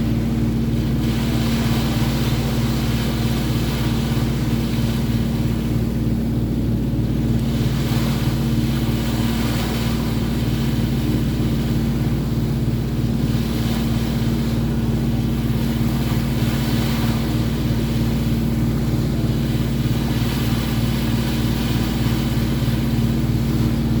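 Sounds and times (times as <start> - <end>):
boat engine droning: 0.0 - 24.0
water noise: 0.0 - 24.0
wind: 0.0 - 24.0.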